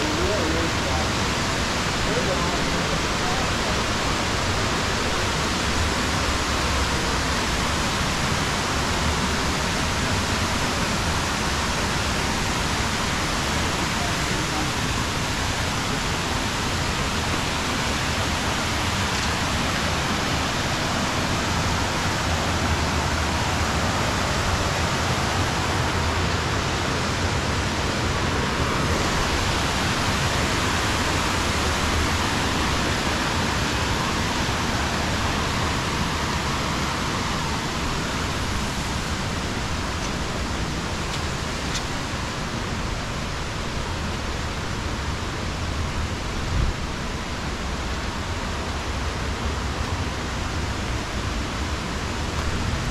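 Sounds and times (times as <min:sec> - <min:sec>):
waterfall rushing over rocks: 0:00.0 - 0:52.9.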